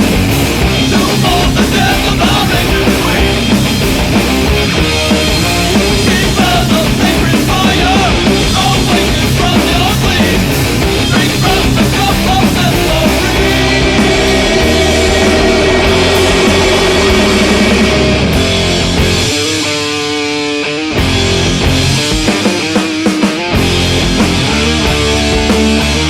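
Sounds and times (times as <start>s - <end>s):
loud rock music: 0.0s - 26.0s.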